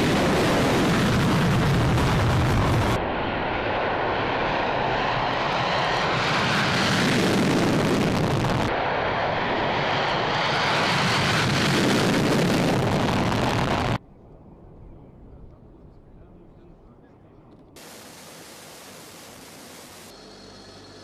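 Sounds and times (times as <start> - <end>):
aircraft engines roaring: 0.0 - 21.0.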